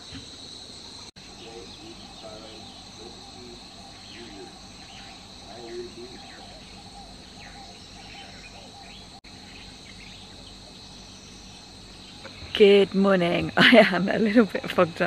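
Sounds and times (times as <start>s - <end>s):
high-pitched insect drone: 0.0s - 15.0s
birds calling: 1.2s - 15.0s.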